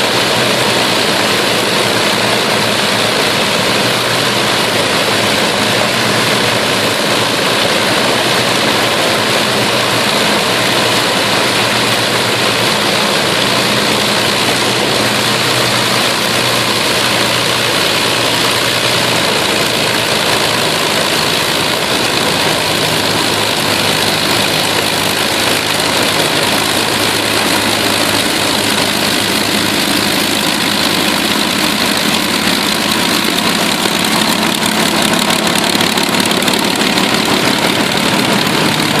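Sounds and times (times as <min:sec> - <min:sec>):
piston aircraft engines running: 0:00.0 - 0:39.0.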